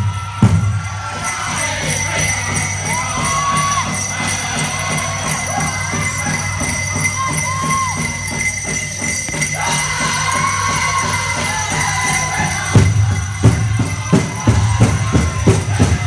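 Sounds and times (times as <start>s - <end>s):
bells jingling: 0.0s - 16.0s
high held singing voices: 0.0s - 16.0s
steady drumbeat: 0.0s - 16.0s.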